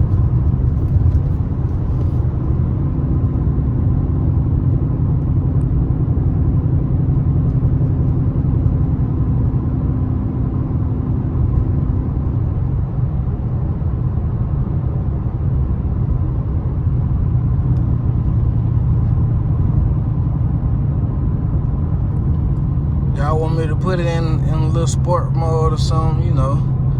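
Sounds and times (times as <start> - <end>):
car engine rumble from cabin: 0.0 - 26.9.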